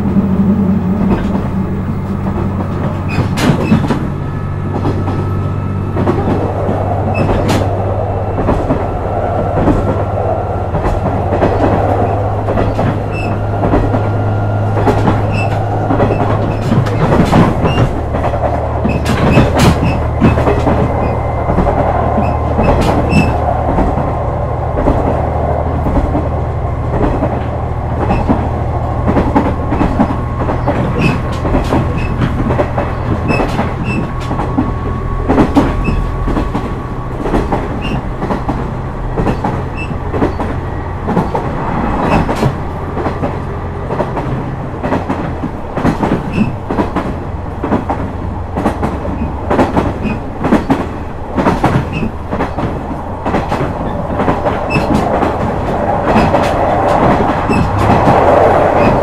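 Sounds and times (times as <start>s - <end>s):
diesel engine humming: 0.0s - 59.0s
wheels clicking over rail joints: 0.0s - 59.0s.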